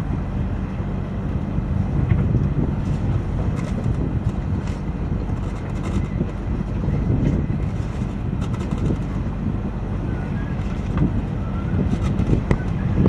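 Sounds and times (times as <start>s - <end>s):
sailboat low rumble: 0.0s - 13.0s
wind buffeting microphone: 0.0s - 13.0s.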